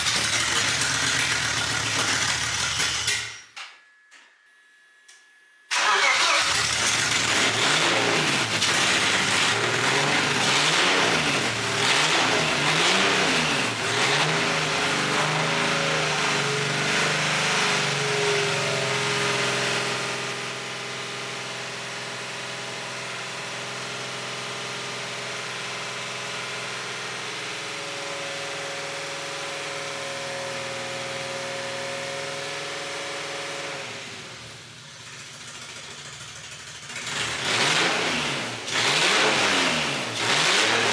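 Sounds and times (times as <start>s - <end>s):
car engine revving and idling: 0.0s - 3.2s, 6.0s - 40.9s.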